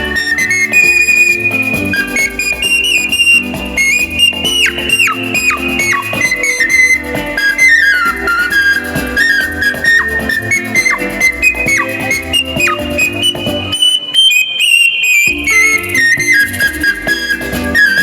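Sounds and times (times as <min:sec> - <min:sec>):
lower instrumental accompaniment: 0:00.0 - 0:14.3, 0:15.3 - 0:18.0
ocarina melody: 0:00.0 - 0:18.0.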